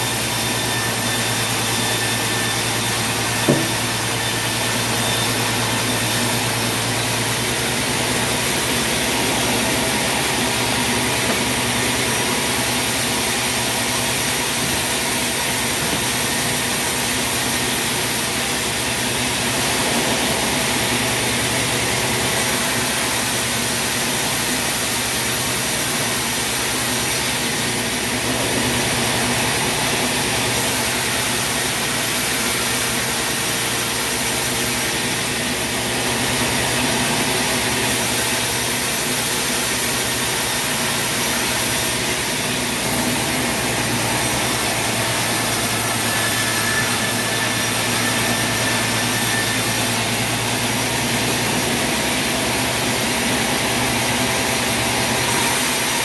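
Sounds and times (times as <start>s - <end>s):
sawmill machine running: 0.0s - 56.0s.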